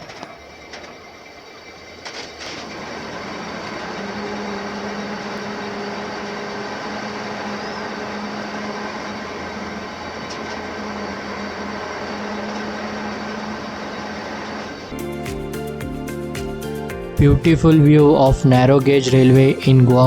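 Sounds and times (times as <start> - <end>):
crane machinery noise: 0.0 - 20.0.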